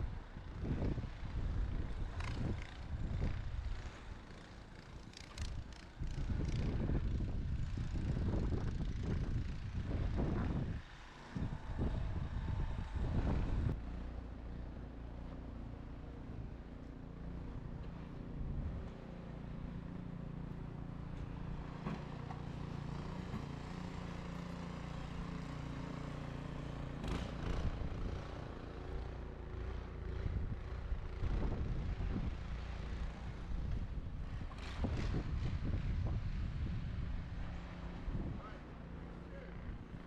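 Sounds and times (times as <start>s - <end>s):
road noise rush: 0.0s - 40.0s
vehicle engine hum: 0.0s - 40.0s.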